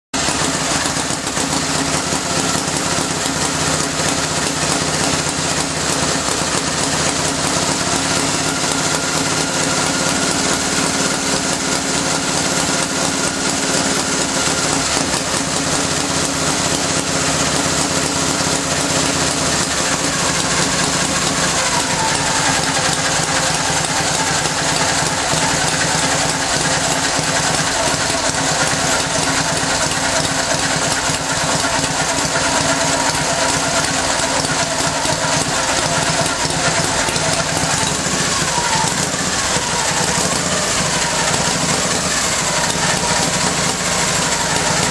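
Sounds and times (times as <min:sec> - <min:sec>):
motorcycle engine running: 0:00.1 - 0:44.9.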